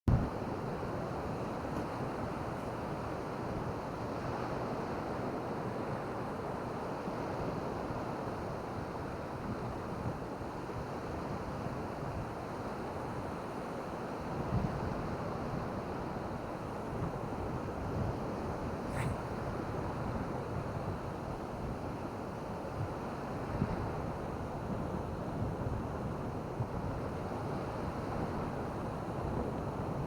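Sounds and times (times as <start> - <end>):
wind: 0.0 - 30.0
ocean surf on beach: 0.1 - 30.0.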